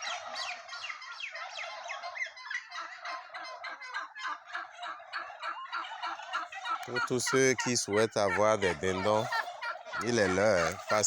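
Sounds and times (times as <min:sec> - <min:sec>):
turkeys gobbling: 0:00.0 - 0:11.0.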